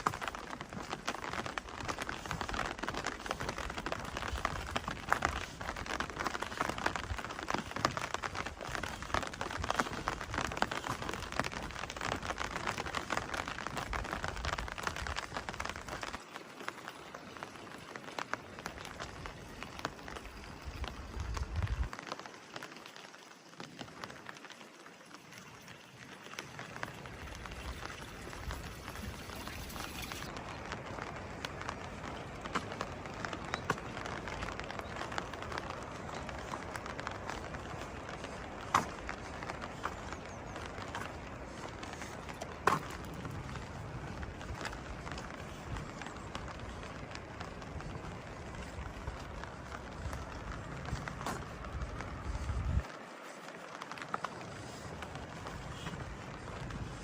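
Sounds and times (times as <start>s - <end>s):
rain pattering on hard surfaces: 0.0s - 57.0s.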